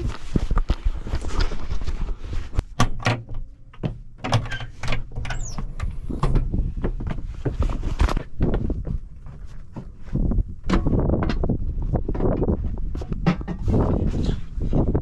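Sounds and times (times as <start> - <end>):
knocks clunks and rattles: 2.6 - 15.0.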